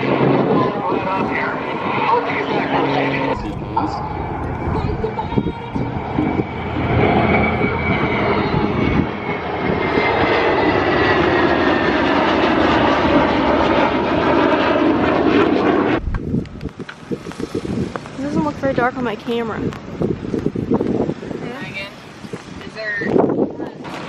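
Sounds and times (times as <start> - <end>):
airplane engine overhead: 0.0 - 24.0.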